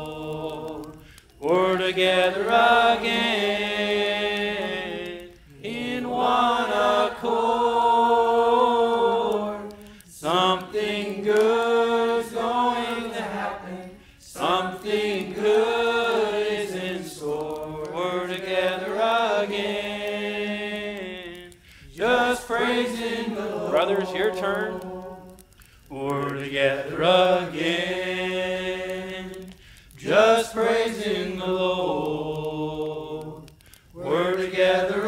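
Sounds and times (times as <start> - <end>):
voices singing gospel chorus: 0.0 - 35.0.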